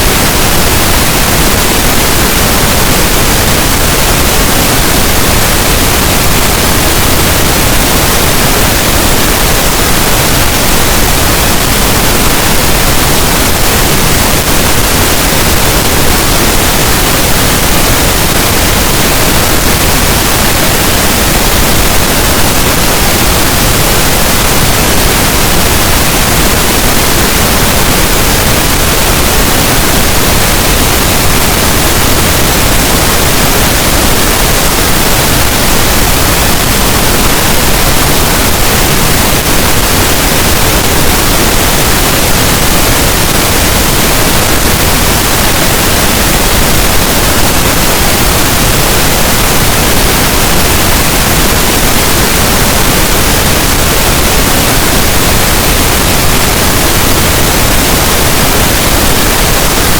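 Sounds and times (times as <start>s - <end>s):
pink noise hiss: 0.0s - 59.9s.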